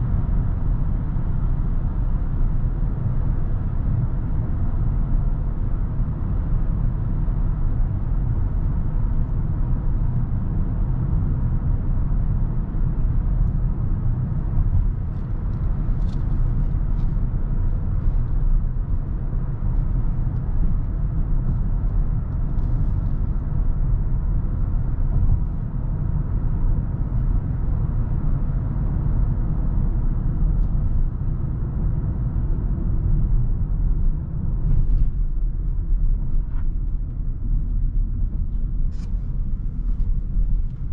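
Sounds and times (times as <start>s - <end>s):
engine and road noise rumble: 0.0s - 40.9s.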